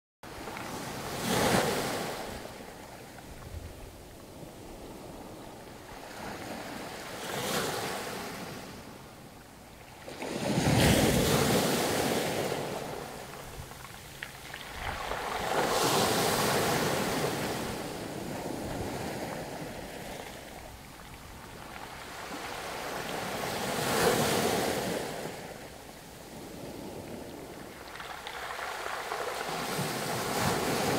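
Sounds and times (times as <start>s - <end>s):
waves breaking on stony beach: 0.3s - 30.9s.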